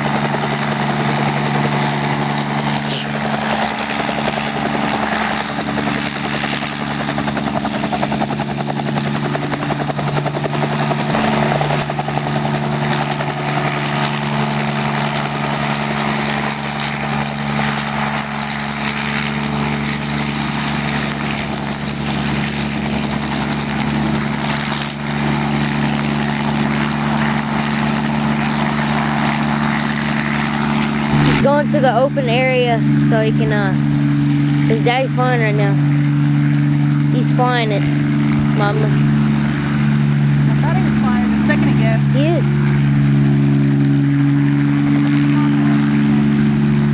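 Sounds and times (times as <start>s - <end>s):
helicopter rotor and engine drone: 0.0s - 46.9s.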